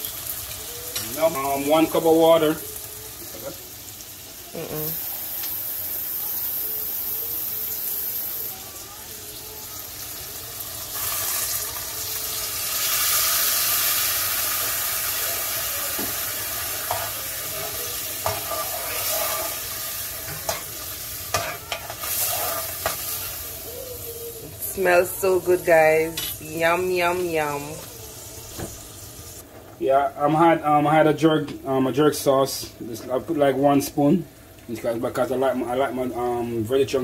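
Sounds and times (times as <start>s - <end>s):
food sizzling in a pot: 0.0s - 37.0s.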